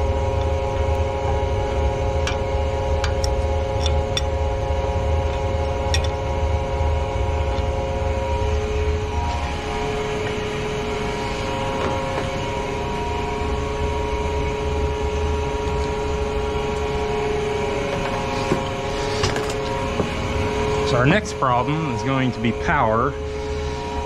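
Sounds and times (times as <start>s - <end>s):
machinery hum with low drone: 0.0s - 24.0s.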